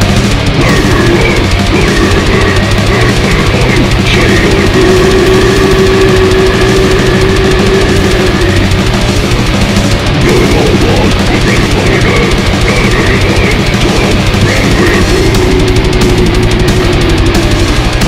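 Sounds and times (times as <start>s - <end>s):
distorted guitars riffing: 0.0s - 18.0s
fast drumming: 0.0s - 18.0s.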